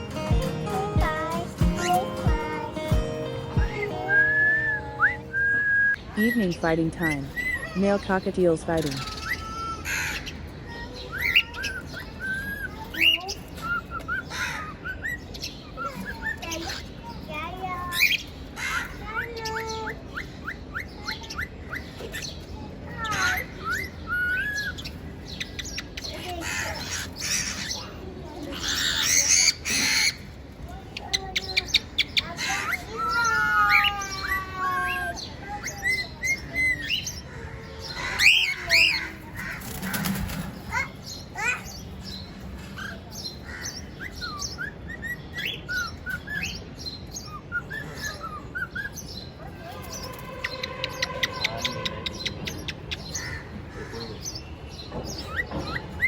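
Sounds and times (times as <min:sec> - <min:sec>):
cockatiels chirping and squawking: 0:01.8 - 0:02.6, 0:07.0 - 0:08.1, 0:08.8 - 0:54.4, 0:55.0 - 0:56.0.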